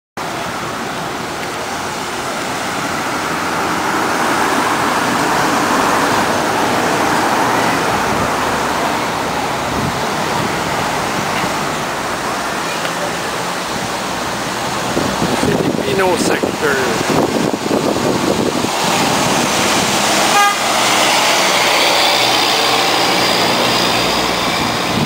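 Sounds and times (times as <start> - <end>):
road traffic noise: 0.2 - 25.0.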